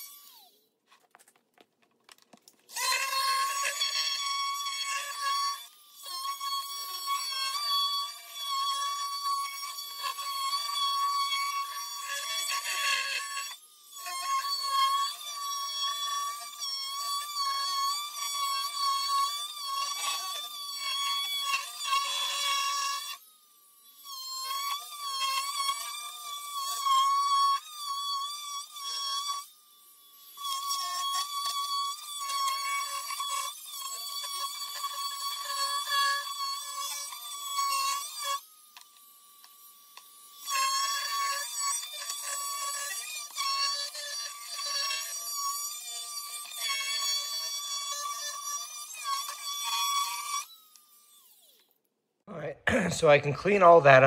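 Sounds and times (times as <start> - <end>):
oscillating multi-tool cutting: 0.0 - 1.4, 2.1 - 51.9.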